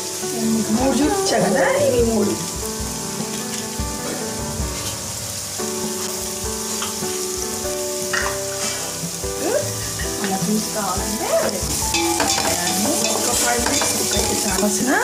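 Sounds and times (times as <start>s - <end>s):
faint background music: 0.0s - 15.0s
vegetables sizzling in a pot: 0.0s - 15.0s.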